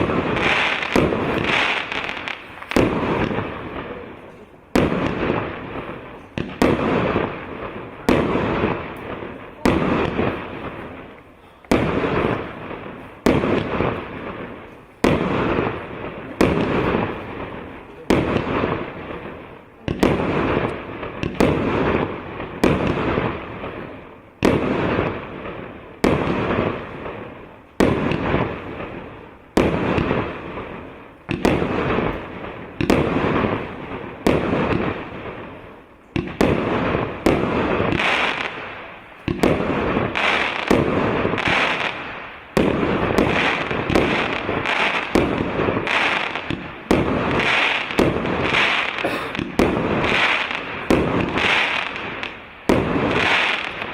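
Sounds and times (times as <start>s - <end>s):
firework bangs with hiss: 0.0s - 53.9s.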